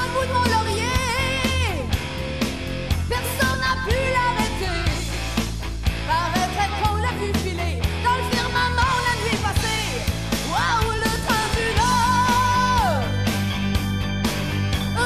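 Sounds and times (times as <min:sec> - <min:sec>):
rock song with singing: 0:00.0 - 0:15.0.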